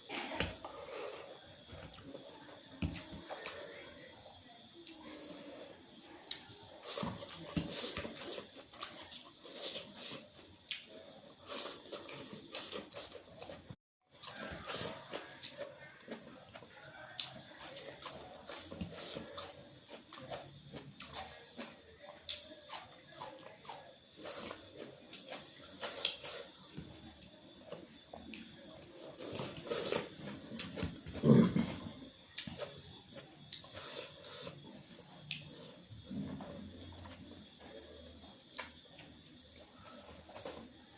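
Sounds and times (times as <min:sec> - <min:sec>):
wet chewing: 0:06.1 - 0:40.9.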